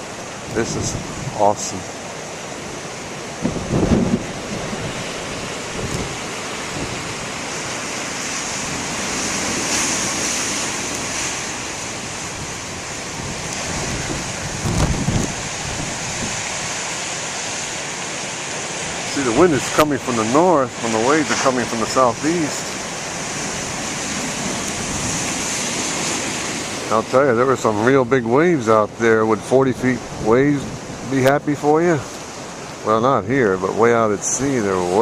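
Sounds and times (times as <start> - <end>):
ocean surf breaking: 0.0 - 35.0
wind buffeting microphone: 0.0 - 35.0.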